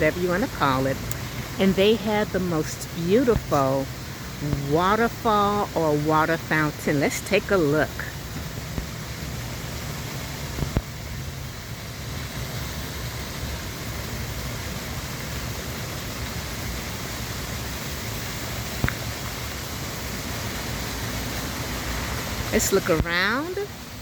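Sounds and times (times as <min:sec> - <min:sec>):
fountain water rushing: 0:00.0 - 0:24.0.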